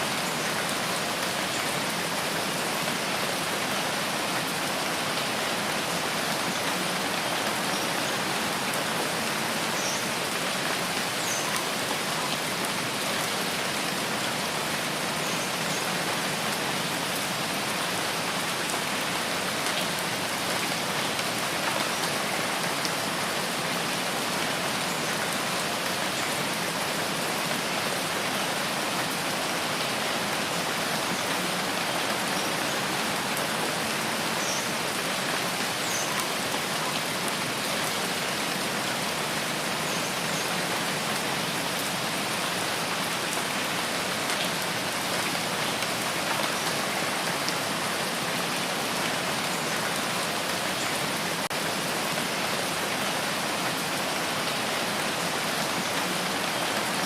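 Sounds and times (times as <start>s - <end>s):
rain falling on foliage: 0.0s - 57.0s.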